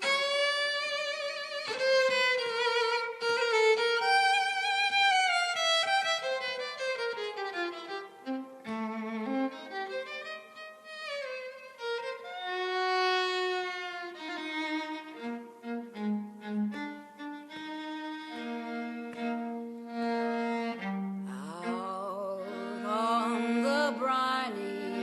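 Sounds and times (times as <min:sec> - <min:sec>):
violin playing slow melody: 0:00.0 - 0:25.0.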